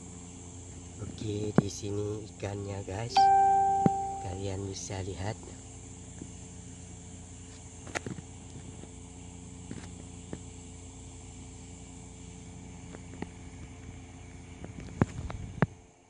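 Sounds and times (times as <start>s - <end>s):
crickets chirring: 0.0s - 16.0s
low hum and rumble: 0.0s - 16.0s.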